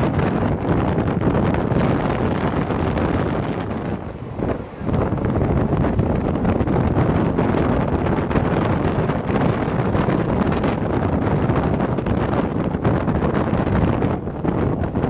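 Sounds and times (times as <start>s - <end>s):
moving passenger train: 0.0s - 15.0s
wind buffeting microphone: 0.0s - 15.0s.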